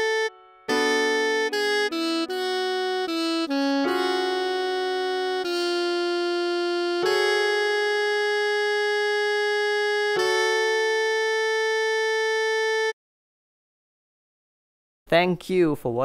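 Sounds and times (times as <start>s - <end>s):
synthesized alto saxophone notes: 0.0s - 13.0s.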